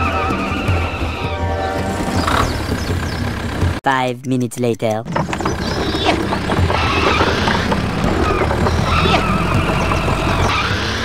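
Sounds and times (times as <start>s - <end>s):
tractor engine running: 0.0s - 4.0s, 4.6s - 11.0s.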